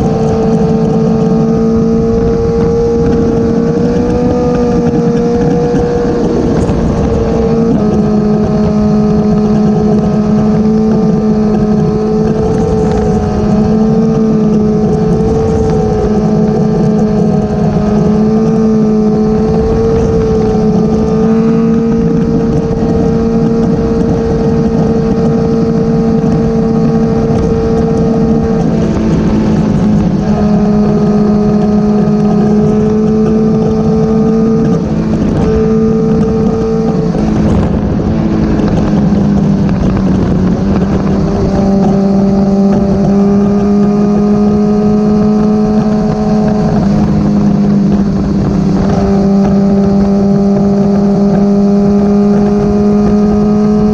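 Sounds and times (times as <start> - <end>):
motorcycle engine cruising: 0.0 - 53.9
wind noise on microphone: 0.0 - 53.9.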